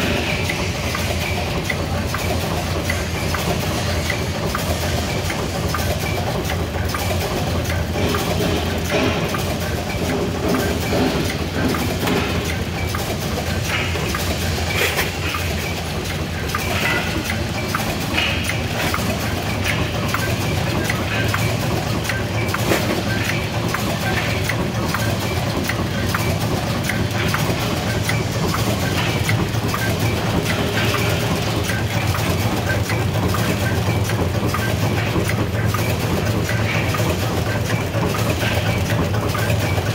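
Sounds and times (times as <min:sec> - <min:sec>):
machine clicks: 0:00.0 - 0:39.9
machine humming: 0:00.0 - 0:39.9.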